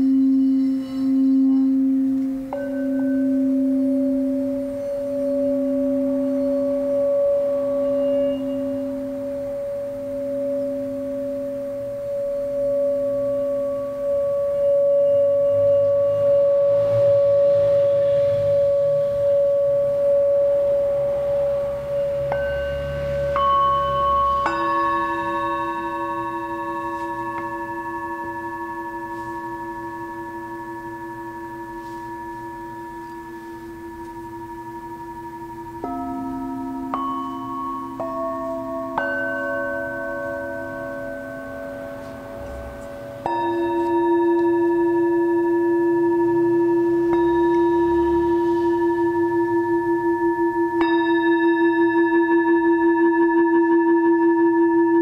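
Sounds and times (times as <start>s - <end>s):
singing bowls struck with mallet: 0.0s - 55.0s.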